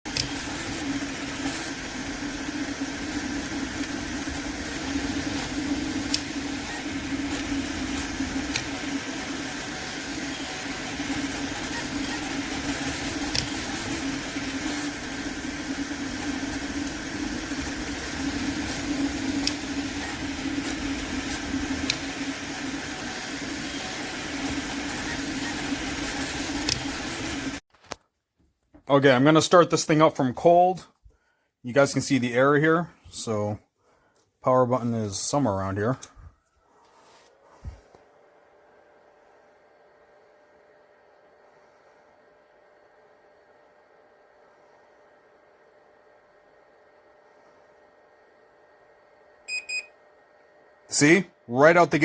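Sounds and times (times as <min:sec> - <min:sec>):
mechanical hum: 0:00.1 - 0:28.0, 0:28.9 - 0:52.0.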